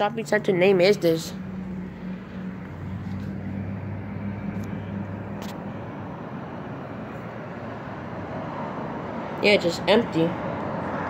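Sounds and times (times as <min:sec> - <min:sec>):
road rumble: 0:00.0 - 0:11.0
vehicle engine hum: 0:00.0 - 0:11.0.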